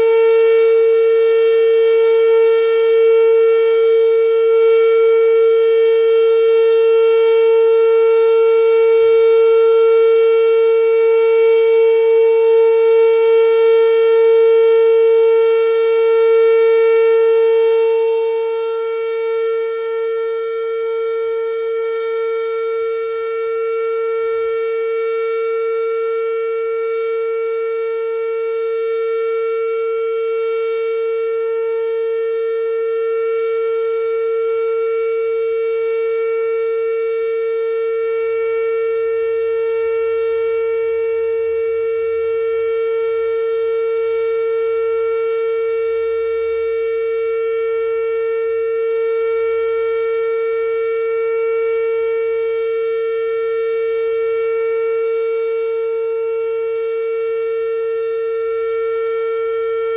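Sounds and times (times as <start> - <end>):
warning siren steady tone: 0.0 - 59.9.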